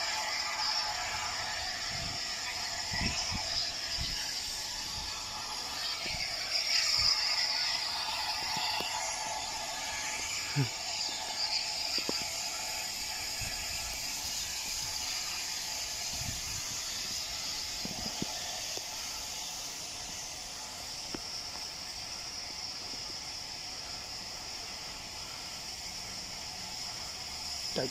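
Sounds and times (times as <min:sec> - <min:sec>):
steam hissing from locomotive: 0:00.0 - 0:27.9.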